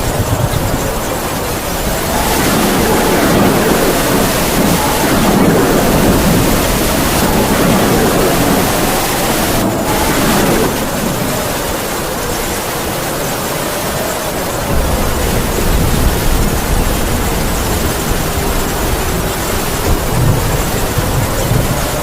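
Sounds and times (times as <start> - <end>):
heavy rain: 0.0 - 22.0
howling wind whistle: 0.0 - 22.0.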